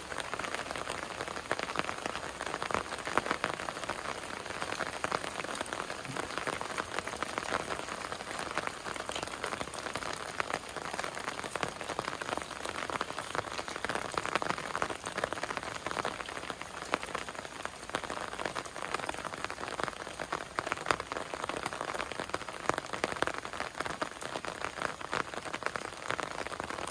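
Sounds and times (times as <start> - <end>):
heavy rain on hard surface: 0.0 - 26.9.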